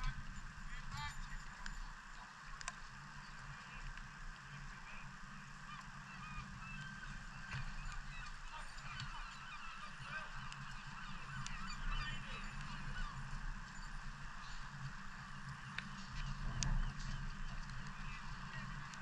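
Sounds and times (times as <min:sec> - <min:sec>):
flock of birds honking: 0:00.0 - 0:19.0.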